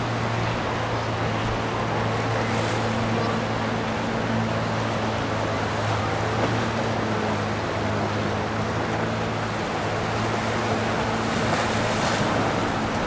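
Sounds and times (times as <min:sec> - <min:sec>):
motorboat engine humming: 0:00.0 - 0:13.0.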